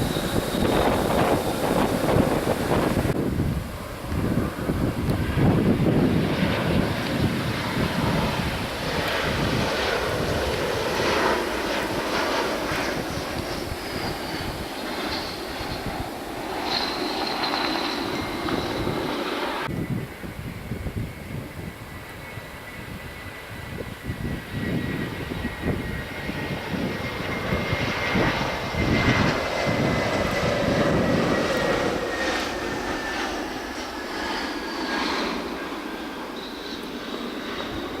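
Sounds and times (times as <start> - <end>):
wind buffeting microphone: 0.0 - 36.2
jet engine roar: 0.0 - 38.0.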